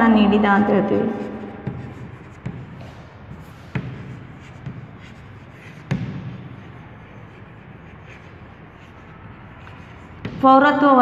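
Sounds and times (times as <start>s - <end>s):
chalk scratching on blackboard: 0.9s - 10.6s.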